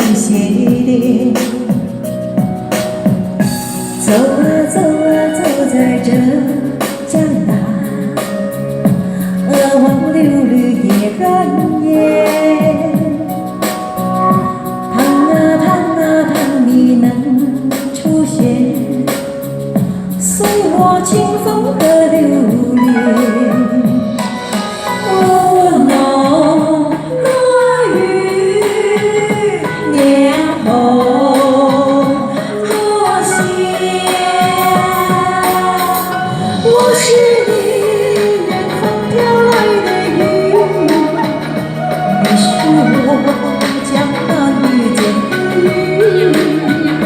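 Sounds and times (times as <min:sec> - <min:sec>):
pop music with steady beat: 0:00.0 - 0:47.0.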